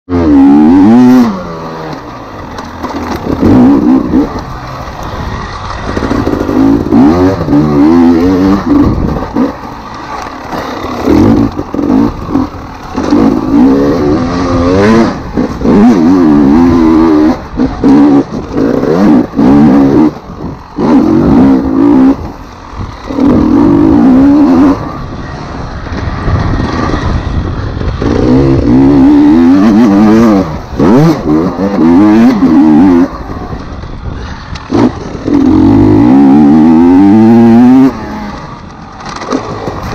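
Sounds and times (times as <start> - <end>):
dirt bike engine revving: 0.1 - 39.9.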